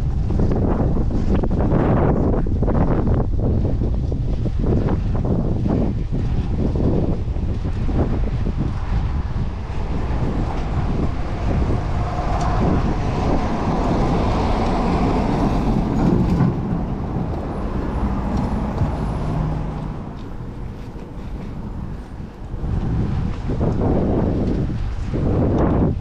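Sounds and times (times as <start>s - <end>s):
large vehicle running: 0.0s - 26.0s
wind on microphone: 0.0s - 26.0s.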